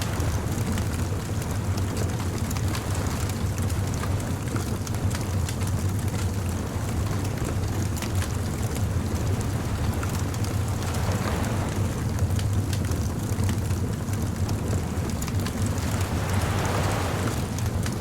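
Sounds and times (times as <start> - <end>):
bonfire crackling and popping: 0.0 - 18.0
steady low rumble: 0.0 - 18.0.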